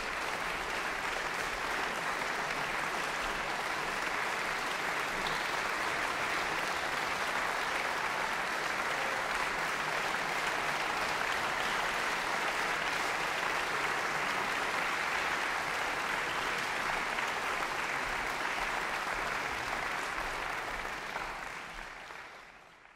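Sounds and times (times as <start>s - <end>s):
audience applauding: 0.0s - 22.9s.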